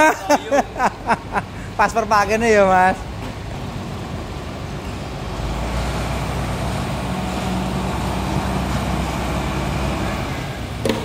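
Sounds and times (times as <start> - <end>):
diesel bus engine drone: 0.0 - 11.0.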